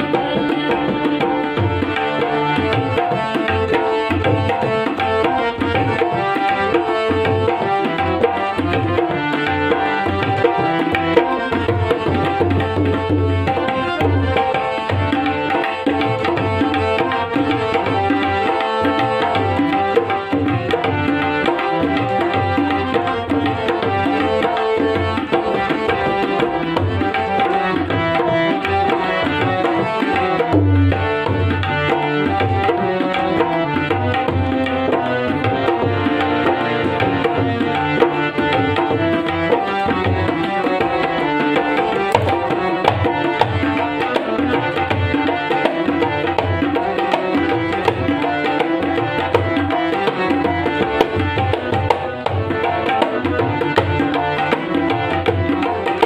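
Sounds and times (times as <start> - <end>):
held melodic accompaniment: 0.0 - 56.0
tabla playing busy rhythm: 0.0 - 56.0.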